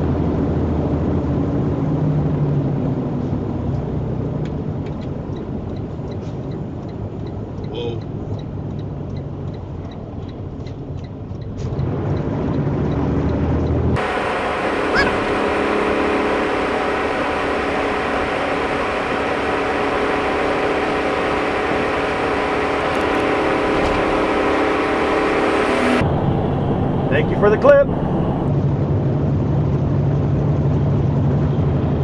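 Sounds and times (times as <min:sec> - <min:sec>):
road noise: 0:00.0 - 0:32.0
truck engine drone: 0:00.0 - 0:32.0.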